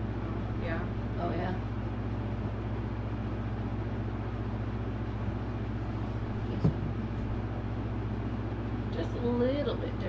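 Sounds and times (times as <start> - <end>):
low hum of room noise: 0.0 - 10.0.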